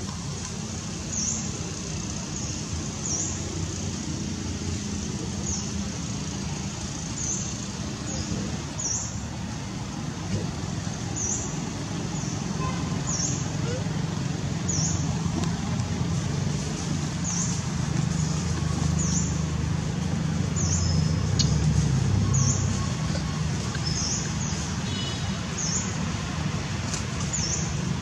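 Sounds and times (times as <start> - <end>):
distant road traffic rumble: 0.0 - 28.0.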